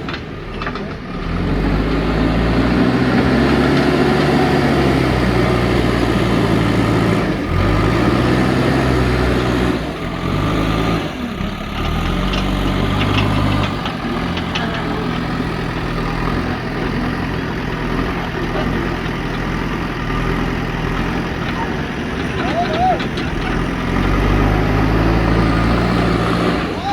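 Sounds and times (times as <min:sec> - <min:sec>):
diesel engine revving: 0:00.0 - 0:26.9.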